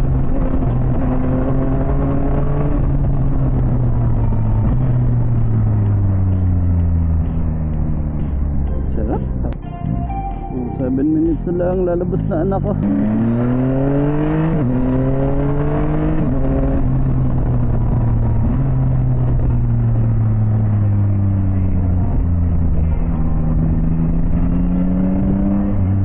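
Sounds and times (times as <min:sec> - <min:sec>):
motorcycle engine accelerating: 0:00.0 - 0:09.6, 0:10.7 - 0:26.0
wind and road noise: 0:00.0 - 0:26.0.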